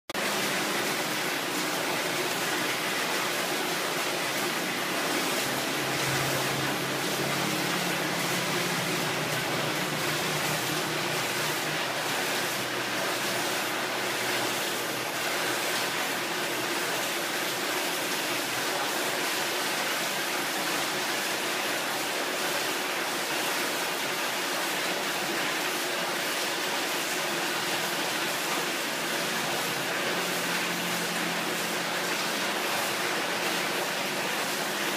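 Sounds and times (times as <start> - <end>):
falling water splashing: 0.1 - 34.9.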